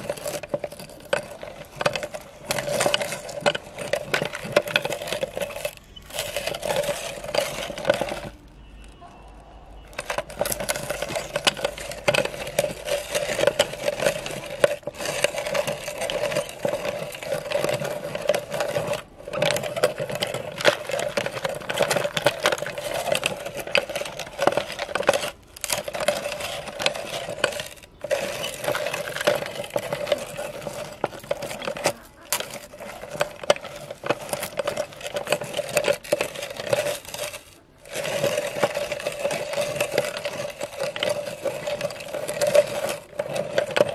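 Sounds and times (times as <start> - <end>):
hard candy crunching: 0.0 - 43.9.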